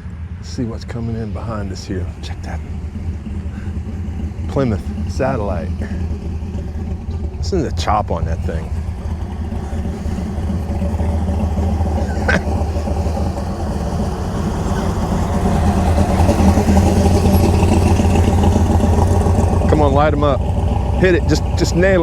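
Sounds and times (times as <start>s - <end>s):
car engine lumpy idle: 0.0s - 22.0s.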